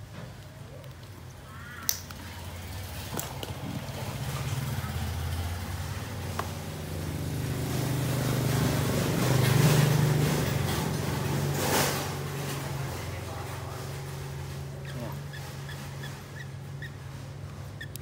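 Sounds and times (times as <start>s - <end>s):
motor engine running: 2.4s - 18.0s.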